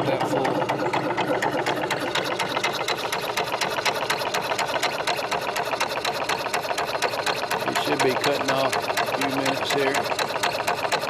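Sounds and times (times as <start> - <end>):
compressor pumping with clatter: 0.0 - 11.0.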